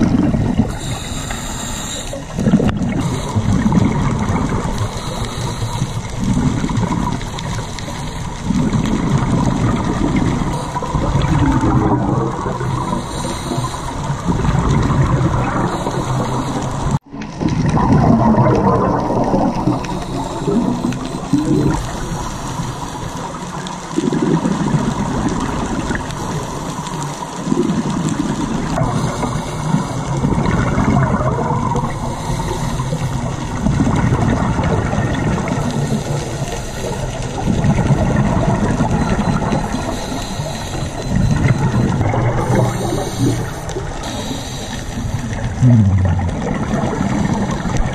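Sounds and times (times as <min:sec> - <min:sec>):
underwater bubbles gurgling: 0:00.0 - 0:47.9.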